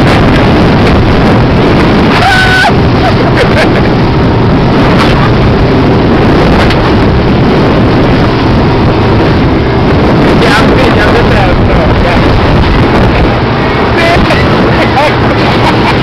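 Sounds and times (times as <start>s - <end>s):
motorboat engine and water rush: 0.0s - 16.0s
wind on microphone: 0.0s - 16.0s.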